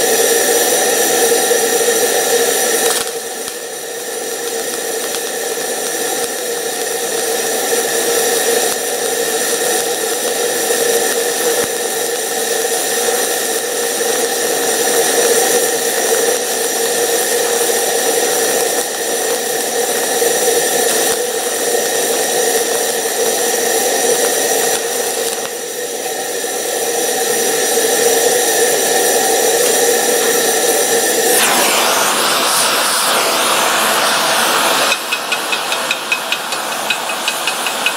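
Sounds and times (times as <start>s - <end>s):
gas torch flame burning: 0.0s - 37.9s
welding arc crackling hiss: 0.0s - 37.9s.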